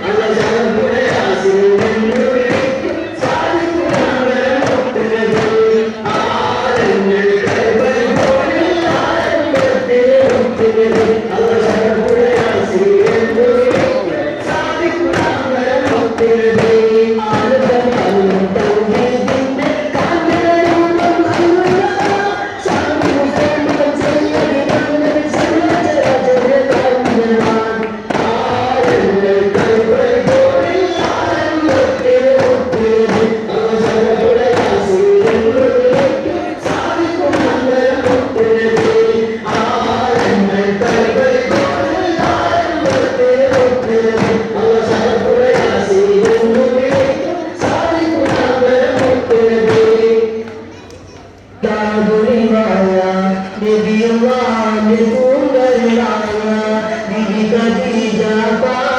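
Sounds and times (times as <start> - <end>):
group chanting in unison: 0.0 - 50.7
frame drums beating: 0.0 - 52.6.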